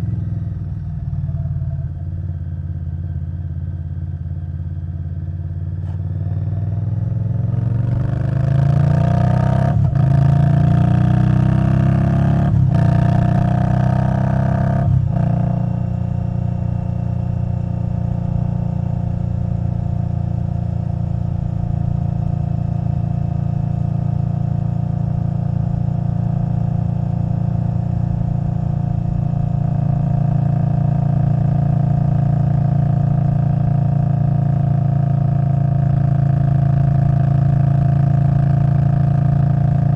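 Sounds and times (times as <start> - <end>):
motorcycle engine accelerating: 3.9 - 39.9.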